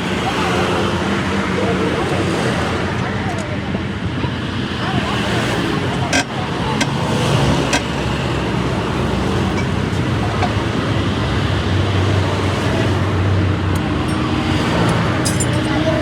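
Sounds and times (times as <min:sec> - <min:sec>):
passing traffic: 0:00.0 - 0:16.0.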